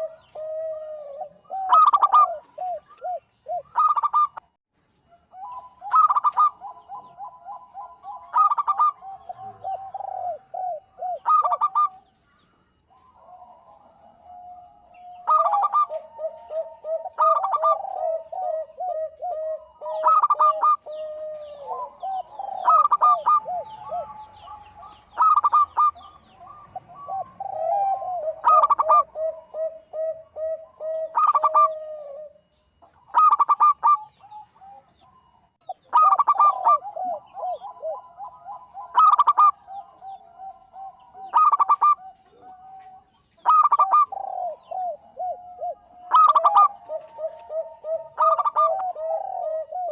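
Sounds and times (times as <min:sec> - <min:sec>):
doves cooing: 0:00.0 - 0:04.5, 0:05.1 - 0:49.9.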